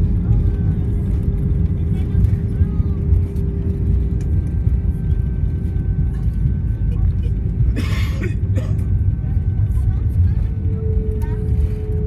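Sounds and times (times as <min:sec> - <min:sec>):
jet engine hum: 0:00.0 - 0:12.0
wheels rumbling on runway: 0:00.0 - 0:12.0.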